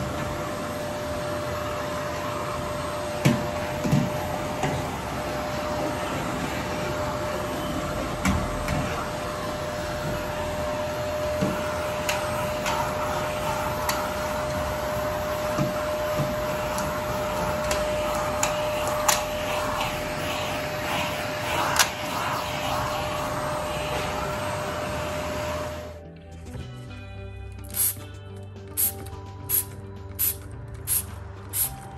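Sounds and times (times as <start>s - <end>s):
vacuum cleaner whining: 0.0s - 26.0s.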